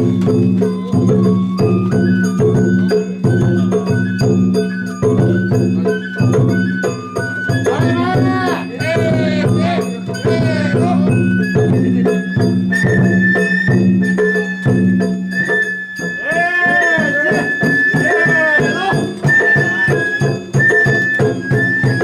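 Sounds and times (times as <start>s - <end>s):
bamboo flute melody: 0.0s - 22.0s
drum strikes: 0.0s - 22.0s.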